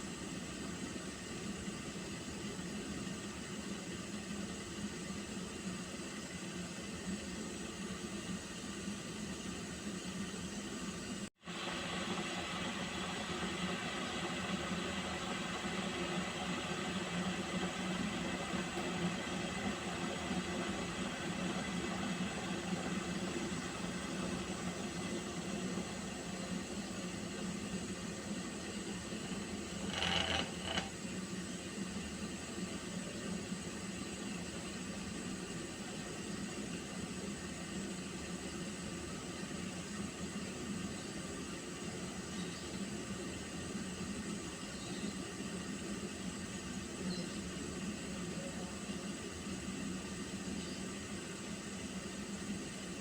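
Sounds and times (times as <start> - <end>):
water heating with steady hiss: 0.0 - 53.0.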